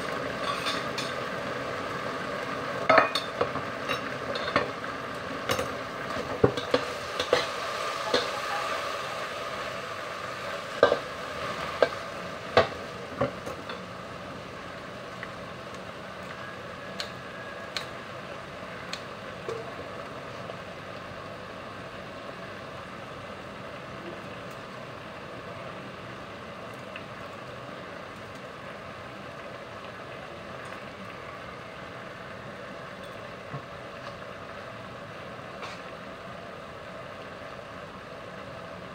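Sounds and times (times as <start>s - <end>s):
okra sizzling in a wok: 0.0s - 38.9s.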